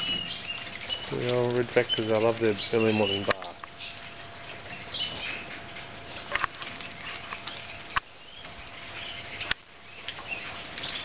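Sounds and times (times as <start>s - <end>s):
birds splashing in water: 0.0s - 11.0s.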